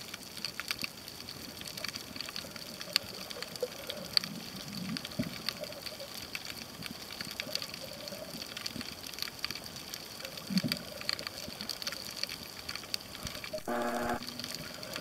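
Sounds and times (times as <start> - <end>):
faint crackling clicks: 0.0 - 15.0
underwater haze: 0.0 - 15.0.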